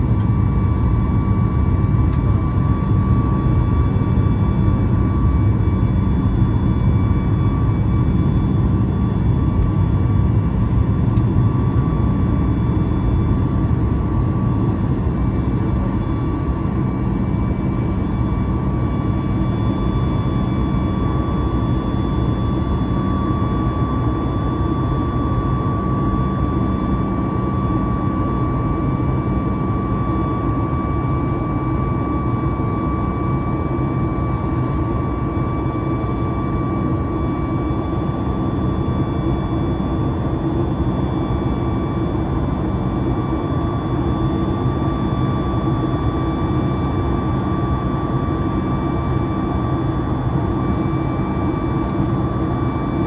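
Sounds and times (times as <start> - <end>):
high fan whine: 0.0 - 53.0
jet engine deep roar: 0.0 - 53.0.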